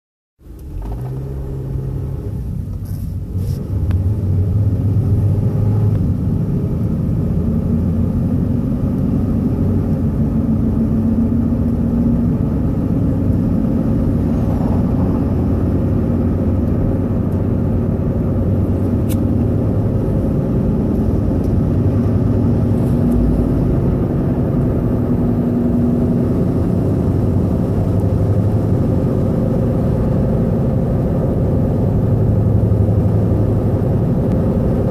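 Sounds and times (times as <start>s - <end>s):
car engine droning: 0.4s - 34.9s.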